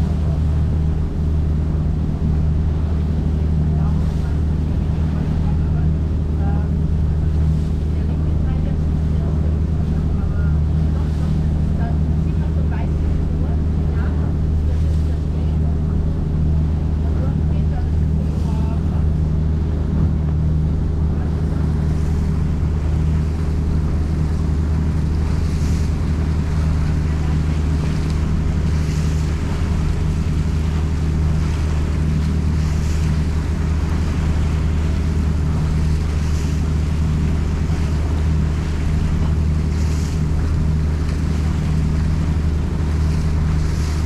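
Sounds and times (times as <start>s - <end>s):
boat engine humming: 0.0s - 44.0s
water rushing along hull: 0.0s - 44.0s.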